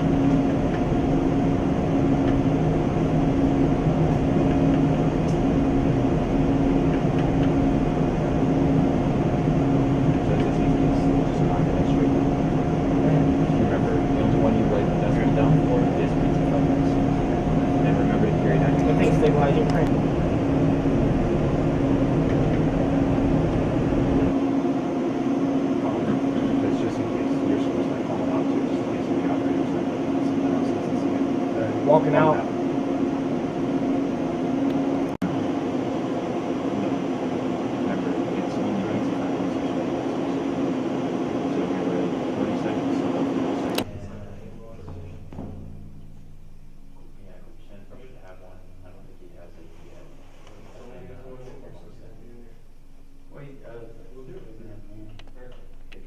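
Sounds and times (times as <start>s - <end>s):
jet engine roaring: 0.0s - 45.2s.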